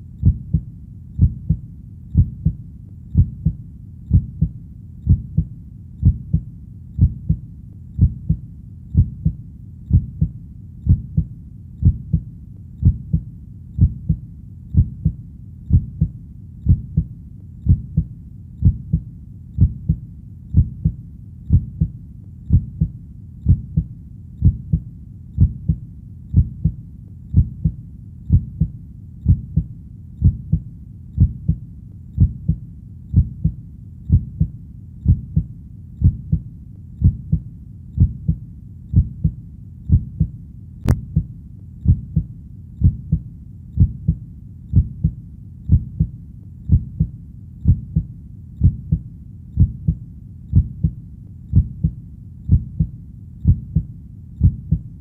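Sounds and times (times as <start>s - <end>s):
heartbeat thumps: 0.0s - 31.6s, 32.2s - 55.0s.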